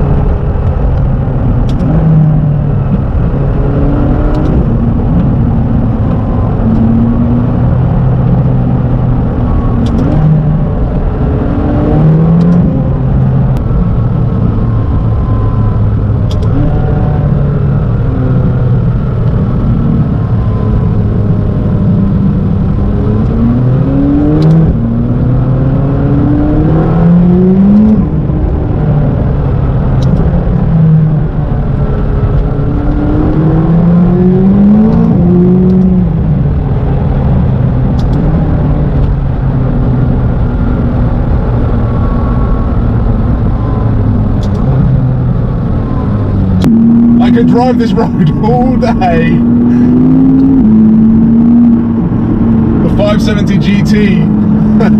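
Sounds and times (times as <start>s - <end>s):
car engine accelerating through gears: 0.0s - 54.9s.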